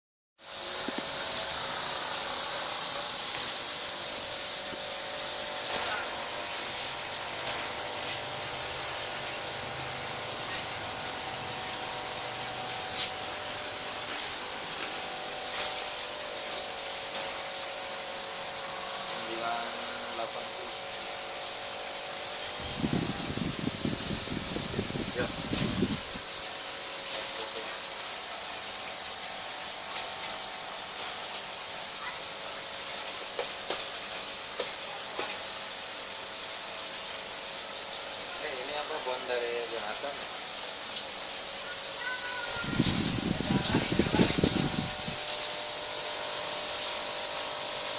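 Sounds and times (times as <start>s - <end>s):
ceiling fan motor hum: 0.4s - 47.9s.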